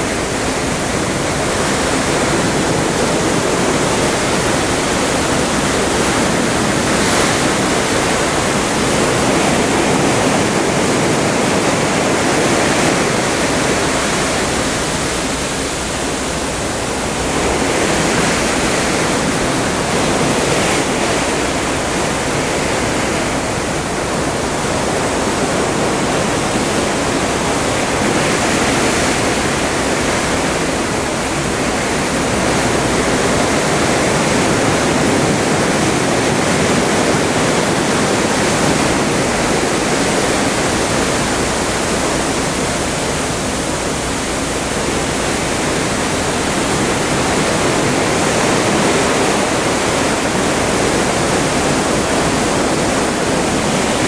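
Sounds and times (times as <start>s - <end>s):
seawater rushing past hull: 0.0s - 54.0s.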